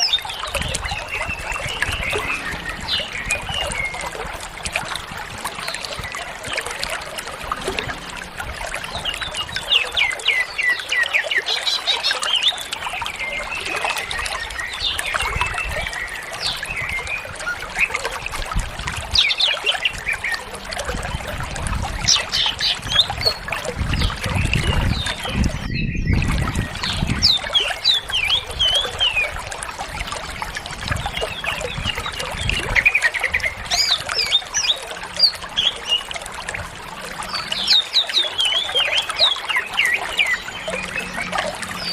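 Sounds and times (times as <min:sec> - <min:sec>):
bird singing chirps and trills: 0:00.0 - 0:41.9.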